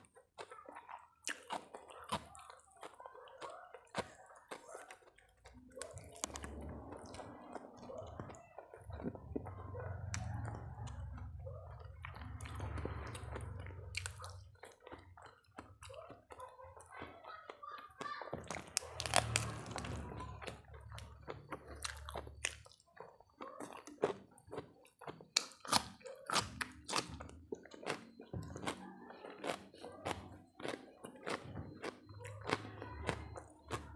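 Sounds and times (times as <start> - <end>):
chewing crisp food: 0.0 - 33.9.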